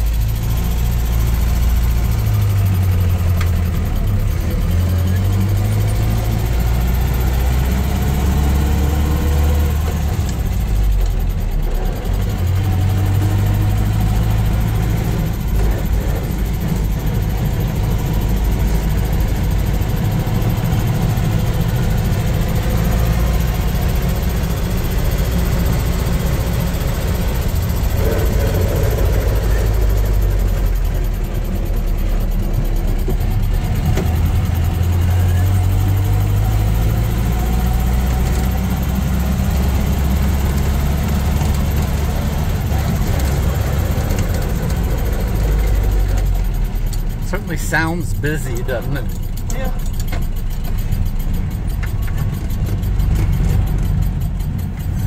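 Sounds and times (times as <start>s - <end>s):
engine drone from inside cab: 0.0s - 55.0s.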